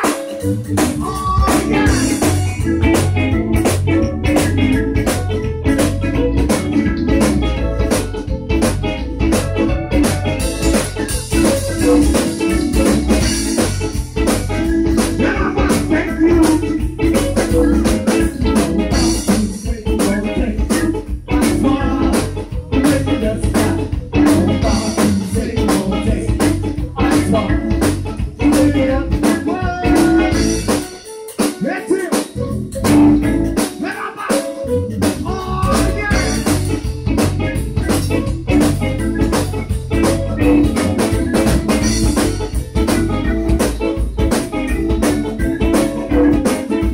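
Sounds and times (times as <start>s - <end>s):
band playing: 0.0s - 46.9s
button accordion melody: 0.0s - 46.9s
rubboard scraping rhythm: 0.0s - 46.9s.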